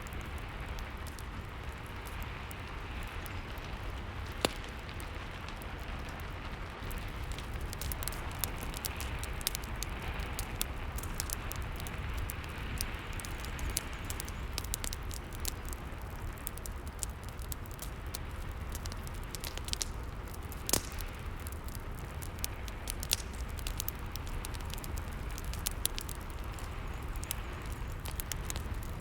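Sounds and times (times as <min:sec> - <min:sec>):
fireplace fire crackling: 0:00.0 - 0:29.0
rain hiss: 0:00.0 - 0:29.0.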